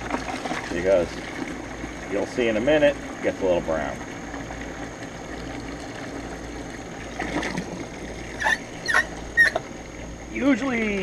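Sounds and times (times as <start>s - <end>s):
hose water splashing into bucket: 0.0s - 9.1s.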